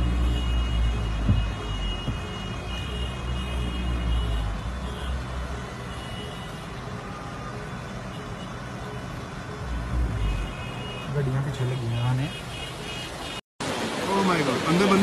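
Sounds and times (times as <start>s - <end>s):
floodwater rushing and churning: 0.0s - 15.0s.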